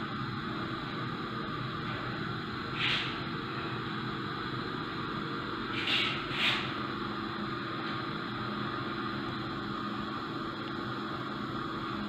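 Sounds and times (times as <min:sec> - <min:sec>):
steady hum with hiss: 0:00.0 - 0:12.0.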